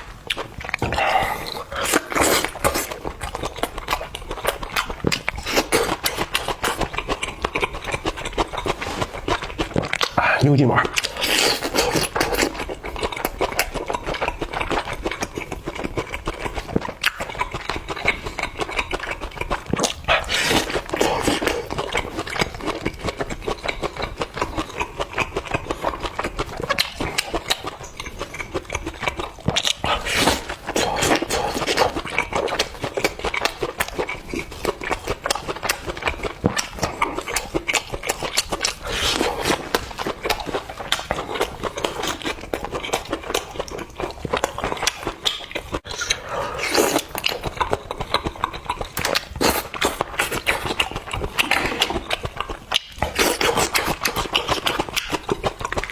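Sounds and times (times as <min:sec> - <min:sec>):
chewing and mouth noises: 0:00.0 - 0:55.9.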